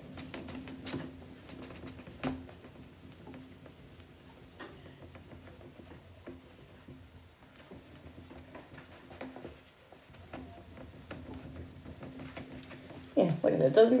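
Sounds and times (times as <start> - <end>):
cloth rubbing whiteboard: 0.0 - 14.0.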